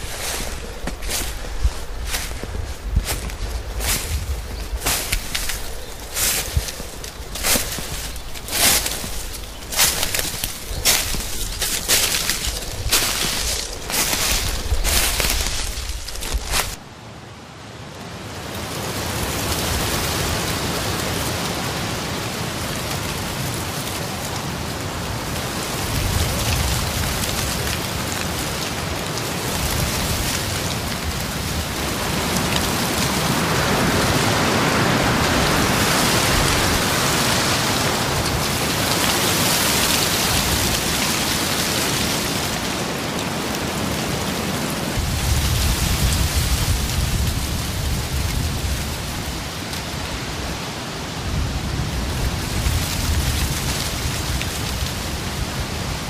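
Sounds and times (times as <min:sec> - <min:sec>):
dry leaves rustling in wind: 0:00.0 - 0:56.0.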